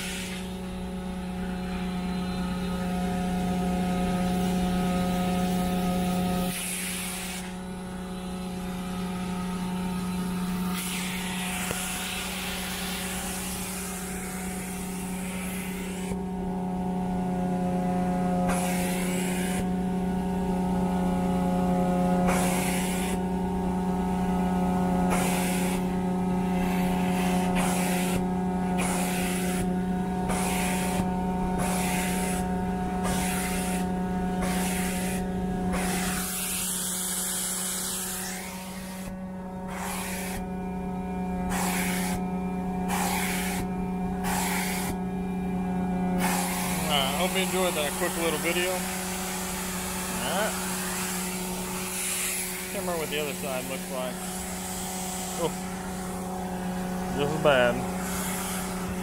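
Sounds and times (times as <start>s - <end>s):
spray hissing bursts: 0.0s - 0.7s, 2.5s - 7.7s, 8.7s - 17.0s, 18.4s - 21.2s, 22.1s - 40.5s, 41.4s - 45.0s, 46.2s - 59.0s
vacuum droning hum: 0.0s - 59.0s.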